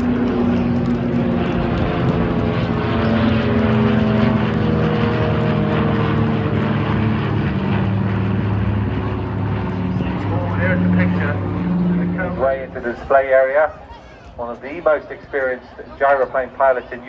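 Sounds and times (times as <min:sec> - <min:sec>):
propeller aircraft flying overhead: 0:00.0 - 0:17.0.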